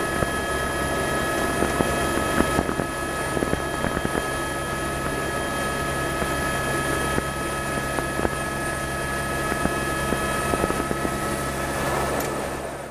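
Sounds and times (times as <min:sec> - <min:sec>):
helicopter droning in flight: 0:00.0 - 0:12.9.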